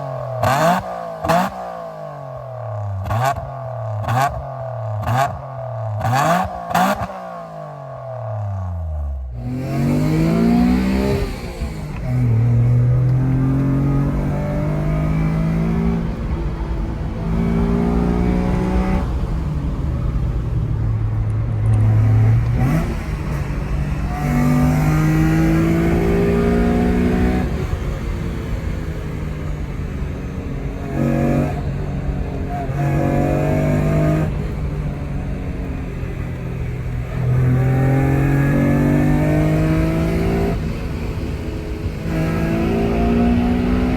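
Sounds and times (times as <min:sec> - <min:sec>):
car engine revving with loud exhaust: 0:00.0 - 0:43.9.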